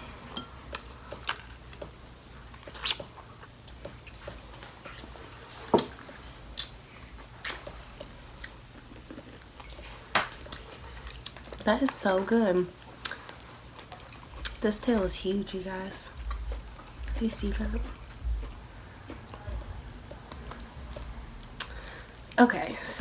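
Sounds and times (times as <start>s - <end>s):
wet chewing and smacking: 0.7s - 22.8s.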